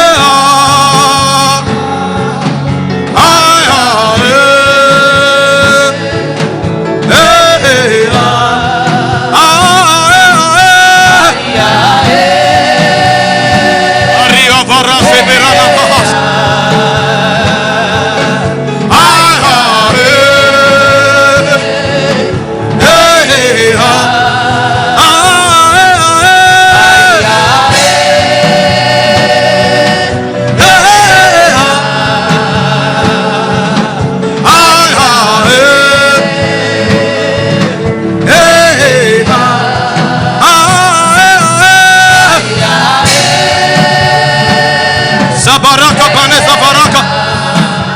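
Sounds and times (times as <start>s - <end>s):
gospel worship singing: 0.0s - 47.9s
instrumental backing music: 0.0s - 47.9s.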